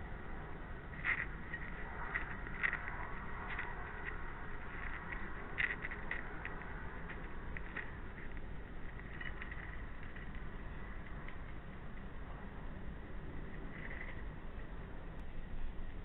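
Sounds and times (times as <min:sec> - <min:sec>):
hedgehog eating and shuffling: 0:00.0 - 0:16.0
steady hiss: 0:00.0 - 0:16.0.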